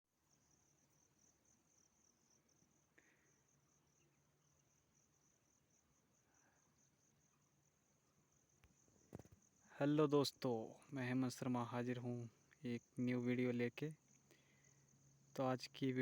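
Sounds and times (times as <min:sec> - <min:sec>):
insects chirring: 0:00.1 - 0:16.0.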